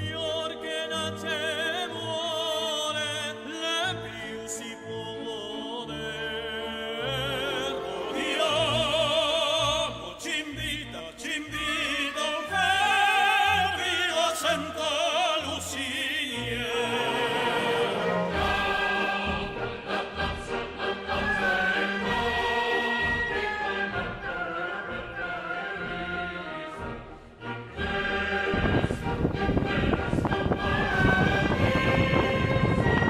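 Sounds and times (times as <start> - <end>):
operatic singing: 0.0 - 33.0
orchestral strings: 0.0 - 33.0.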